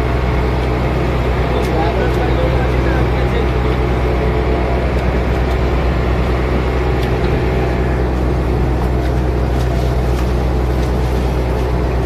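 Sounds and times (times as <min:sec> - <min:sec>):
boat engine low drone: 0:00.0 - 0:12.0.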